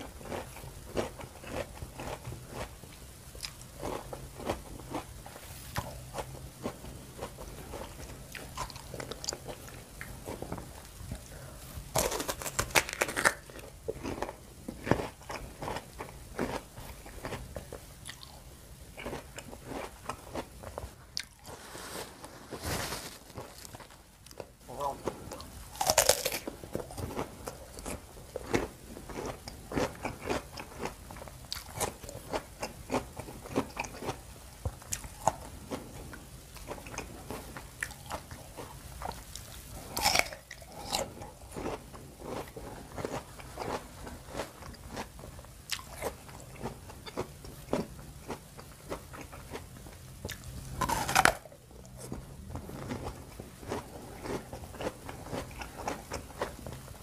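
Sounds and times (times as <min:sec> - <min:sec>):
crunchy fruit chewing: 0:00.0 - 0:57.0.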